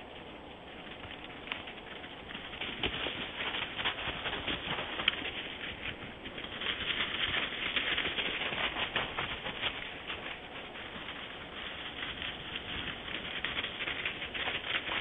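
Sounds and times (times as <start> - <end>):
deer running through dry leaves: 0.0 - 15.0.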